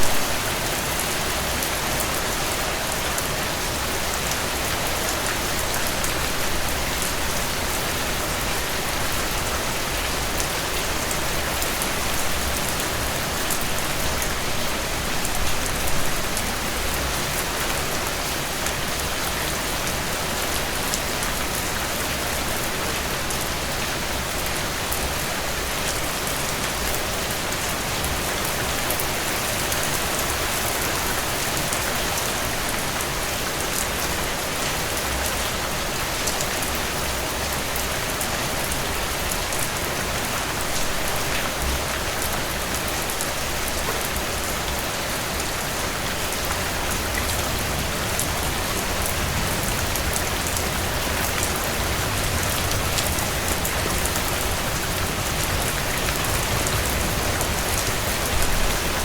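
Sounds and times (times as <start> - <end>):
heavy rain on a porch: 0.0 - 59.0.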